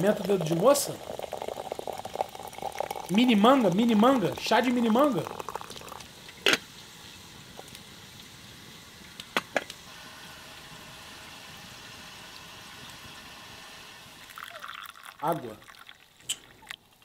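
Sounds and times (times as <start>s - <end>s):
water simmering: 0.0s - 17.0s.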